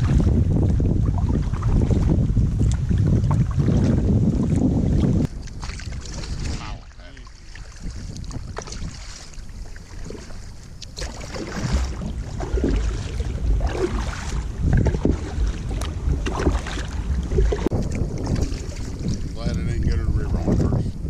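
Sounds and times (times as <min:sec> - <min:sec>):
paddle strokes splashing in water: 0:00.0 - 0:19.4
wind rumble on microphone: 0:00.0 - 0:21.0.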